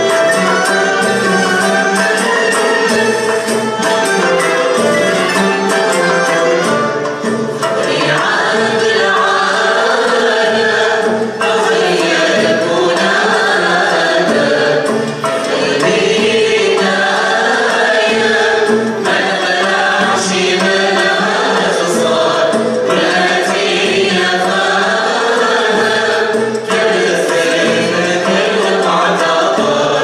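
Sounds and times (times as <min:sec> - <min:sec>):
ouds and violins playing: 0:00.0 - 0:30.0
voices singing together: 0:00.0 - 0:30.0.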